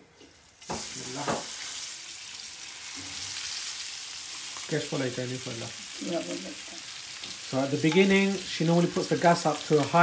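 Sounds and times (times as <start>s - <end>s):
fish sizzling in hot oil: 0.3s - 10.0s.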